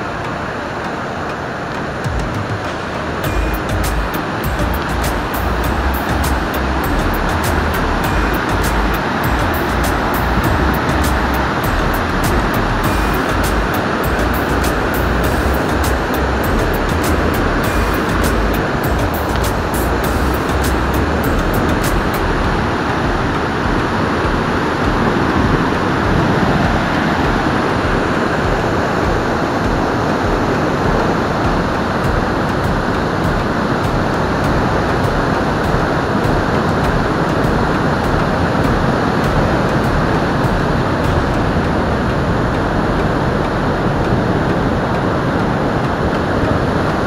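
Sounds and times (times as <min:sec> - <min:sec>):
waterfall rushing over rocks: 0:00.0 - 0:47.0.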